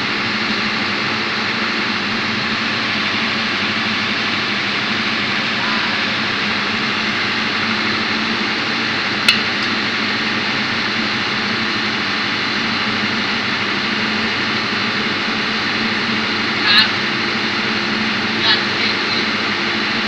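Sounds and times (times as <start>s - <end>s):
engine-room machinery drone: 0.0s - 20.0s.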